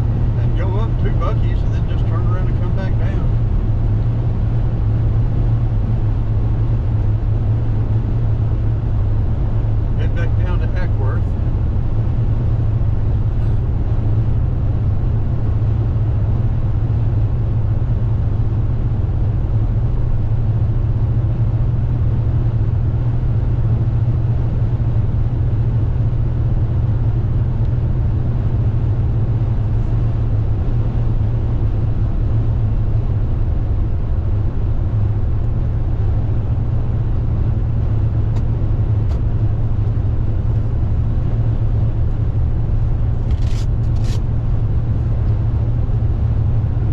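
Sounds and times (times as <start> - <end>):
car driving on highway: 0.0 - 46.9.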